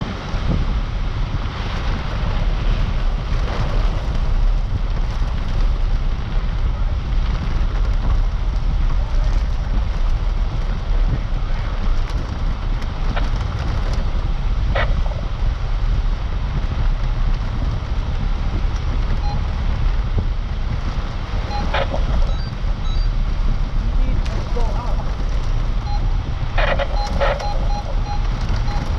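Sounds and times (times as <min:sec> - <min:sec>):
road and wind noise: 0:00.0 - 0:28.9.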